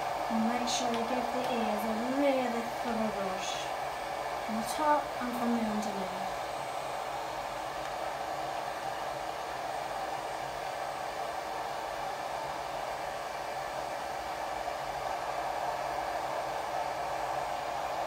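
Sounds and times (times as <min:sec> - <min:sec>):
hairdryer blowing: 0:00.0 - 0:18.0.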